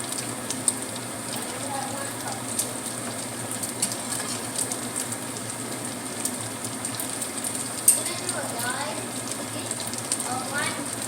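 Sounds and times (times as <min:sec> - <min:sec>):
oil popping and crackling: 0:00.0 - 0:11.0
tofu sizzling in hot oil: 0:00.0 - 0:11.0.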